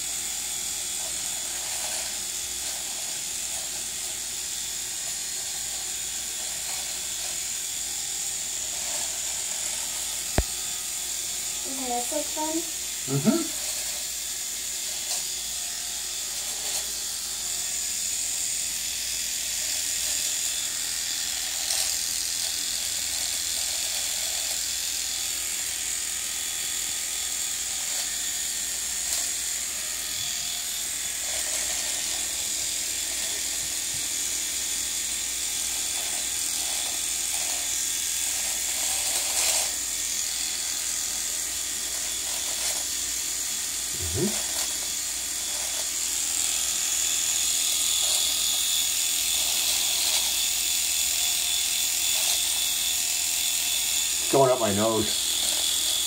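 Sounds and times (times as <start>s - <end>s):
electric shaver running: 0.0s - 56.0s.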